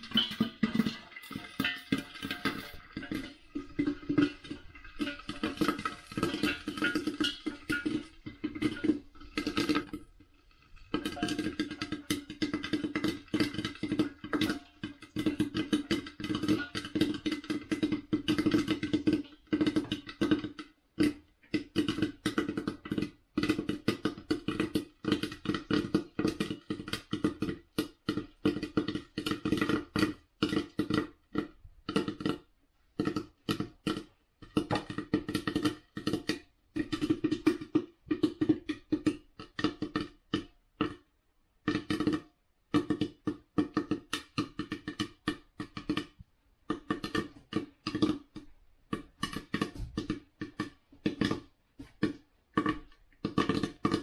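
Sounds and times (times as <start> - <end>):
popcorn popping in metal pot: 0.0 - 54.0.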